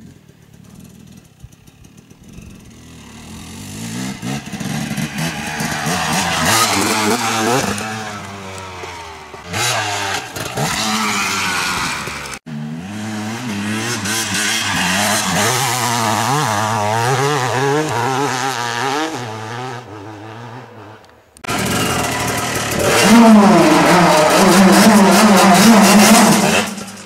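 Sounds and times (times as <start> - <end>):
dirt bike engine revving: 0.7 - 27.0.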